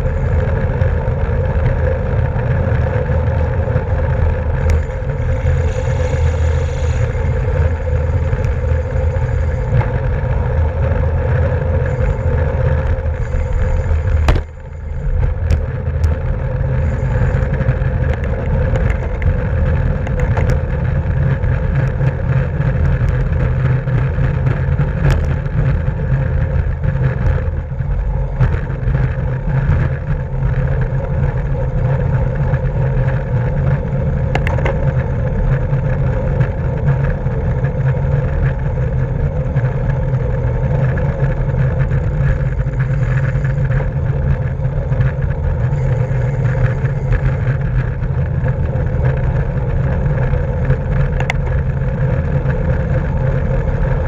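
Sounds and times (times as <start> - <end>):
road rumble: 0.0 - 54.0
wind rush on microphone: 0.0 - 54.0.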